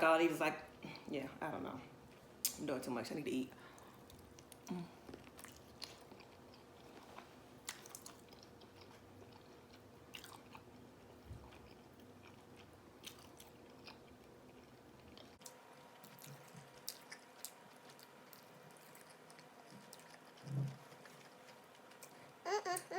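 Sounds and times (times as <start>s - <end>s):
chewing fried food: 3.6s - 22.4s.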